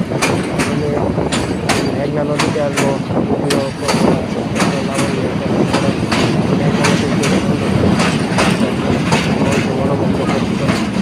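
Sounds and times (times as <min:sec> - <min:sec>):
train rumbling over bridge: 0:00.0 - 0:11.0
wheels clacking over rail joints: 0:00.0 - 0:11.0.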